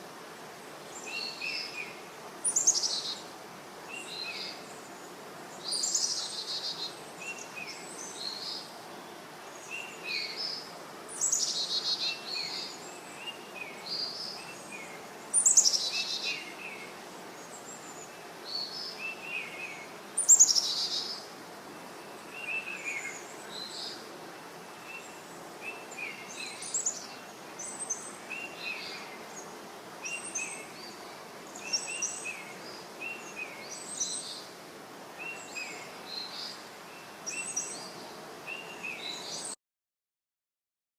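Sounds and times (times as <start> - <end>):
steady background hiss: 0.0 - 39.6
birds chirping and trilling: 0.9 - 34.5, 35.2 - 39.6.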